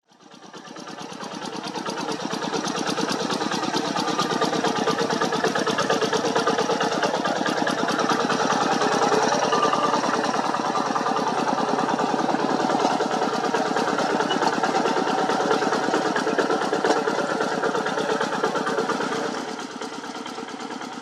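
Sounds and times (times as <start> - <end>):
diesel engine running: 0.1 - 21.0.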